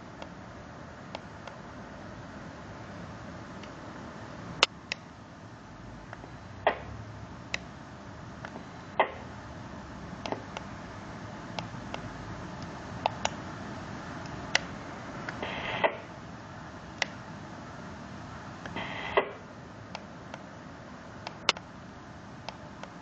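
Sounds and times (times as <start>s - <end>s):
steady radio hiss: 0.0s - 23.0s.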